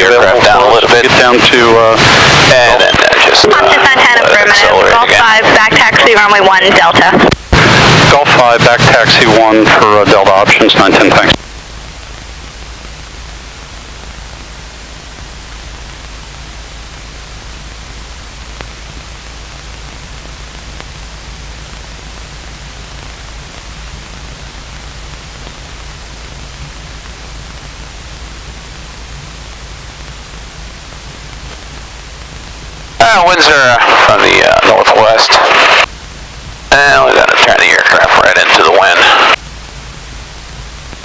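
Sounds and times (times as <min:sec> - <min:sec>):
headset intercom hiss: 0:00.0 - 0:41.0
low aircraft engine drone: 0:00.0 - 0:41.0.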